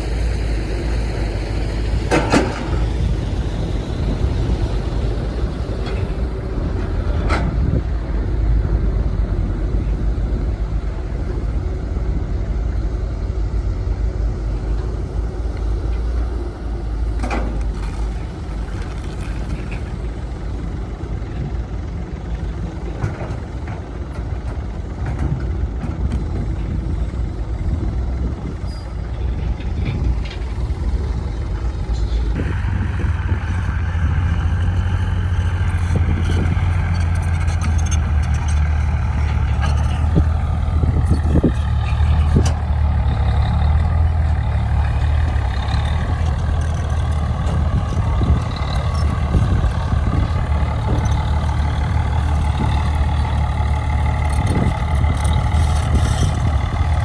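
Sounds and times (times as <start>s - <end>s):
heavy machinery diesel engines: 0.0s - 57.0s.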